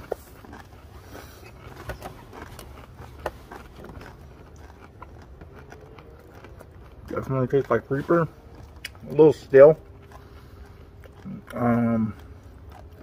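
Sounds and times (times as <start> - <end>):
chip chewing crunches: 0.0 - 13.0
low background rumble: 0.0 - 13.0.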